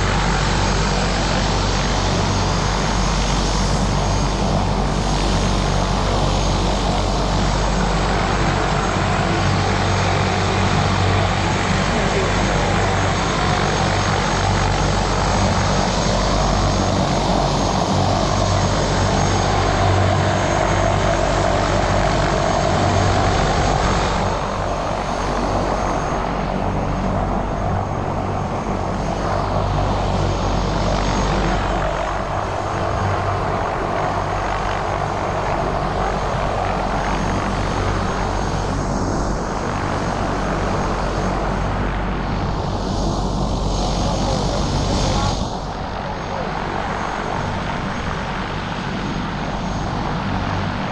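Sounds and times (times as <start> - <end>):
helicopter rotor and turbine drone: 0.0 - 50.9.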